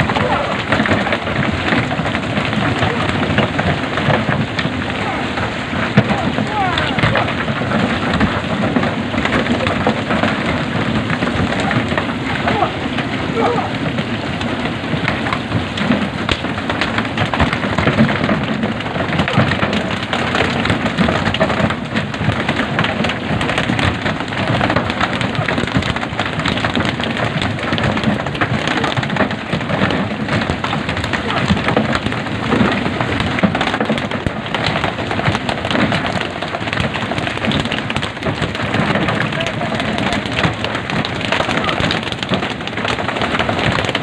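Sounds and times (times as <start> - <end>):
fish flapping on wooden deck: 6.4 - 44.0.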